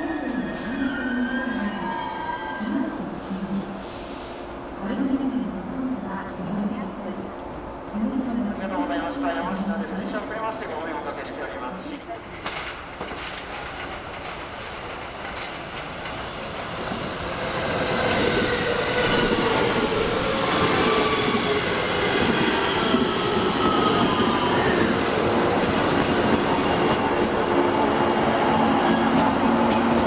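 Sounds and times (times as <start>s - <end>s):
train rolling rumble: 2.6s - 30.0s.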